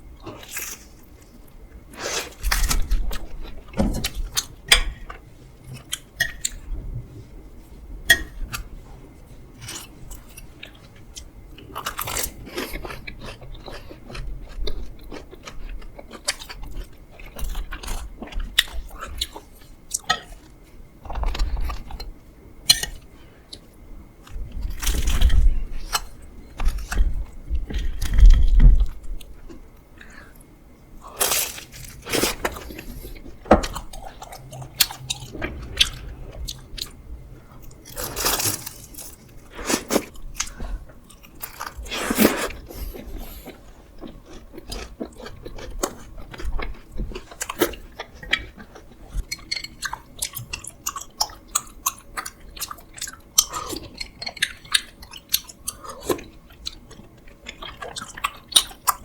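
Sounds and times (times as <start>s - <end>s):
crunching and chewing: 0.1s - 6.7s, 8.2s - 59.0s.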